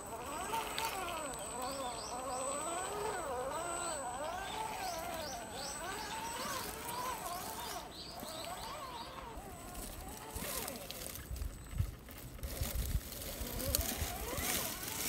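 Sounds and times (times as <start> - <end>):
birds chirping: 0.0 - 12.4
rc car motor whining: 0.0 - 15.0.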